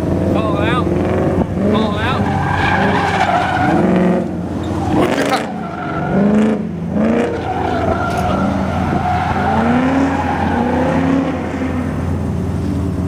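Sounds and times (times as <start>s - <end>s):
car engine revving: 0.0s - 13.0s
tyres squealing on asphalt: 0.5s - 12.2s.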